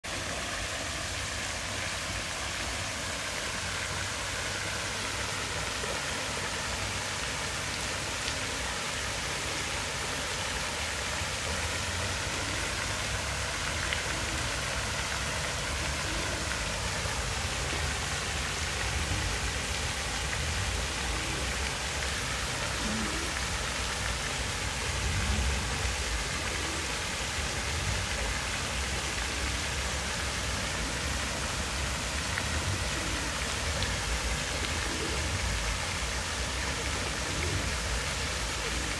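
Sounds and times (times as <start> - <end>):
fountain jets splashing into pool: 0.0 - 38.9.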